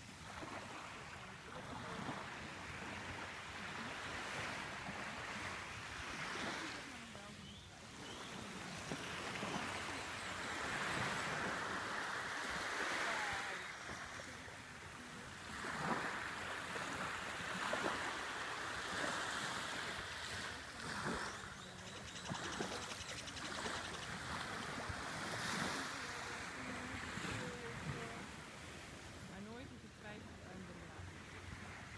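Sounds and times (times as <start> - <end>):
surf washing on beach: 0.0 - 31.9
wind: 0.0 - 31.9.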